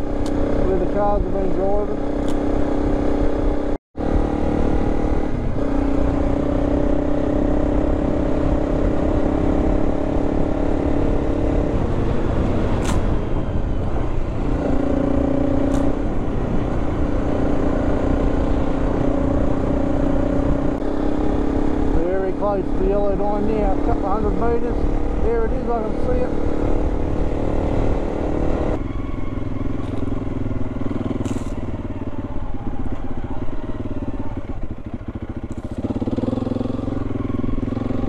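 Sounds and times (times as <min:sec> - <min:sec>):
motorcycle engine cruising: 0:00.0 - 0:38.0
wind and tyre rumble: 0:00.0 - 0:38.0.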